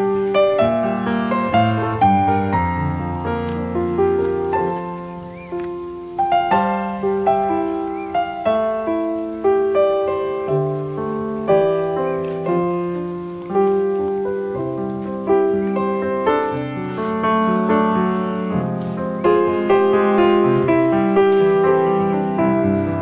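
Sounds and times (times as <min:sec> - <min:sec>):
calm piano music: 0:00.0 - 0:23.0.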